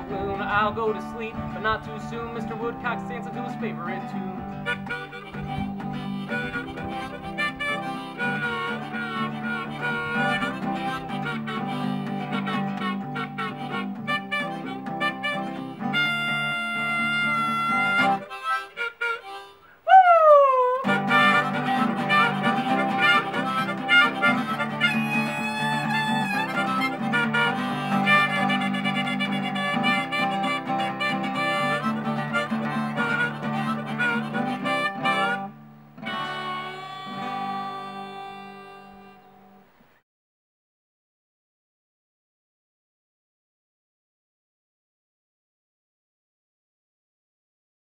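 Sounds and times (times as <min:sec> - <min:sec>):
harmonica: 0:00.0 - 0:39.6
acoustic guitar: 0:00.0 - 0:40.0.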